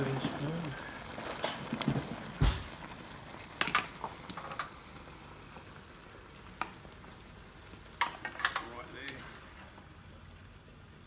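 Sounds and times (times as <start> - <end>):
stir-fry sizzling and bubbling: 0.0 - 11.0.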